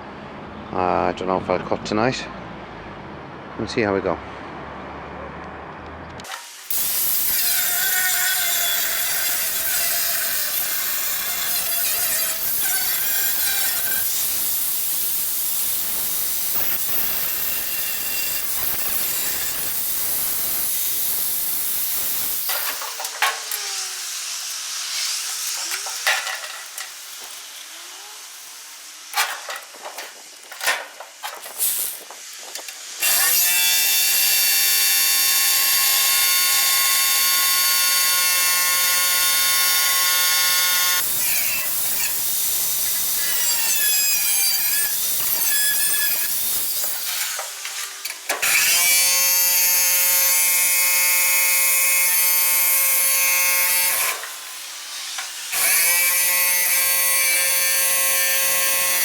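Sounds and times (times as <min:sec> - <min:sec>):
power tool cutting steel: 0:06.2 - 0:59.0.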